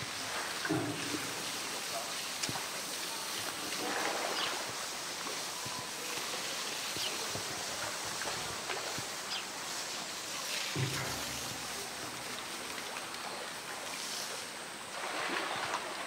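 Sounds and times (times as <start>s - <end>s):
water drips and splashes: 0.0s - 16.0s
water sloshing and lapping: 0.0s - 16.0s.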